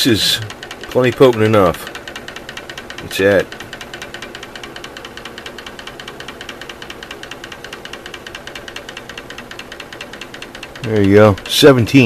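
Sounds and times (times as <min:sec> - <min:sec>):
magnetic stirrer ticking: 0:00.0 - 0:12.0.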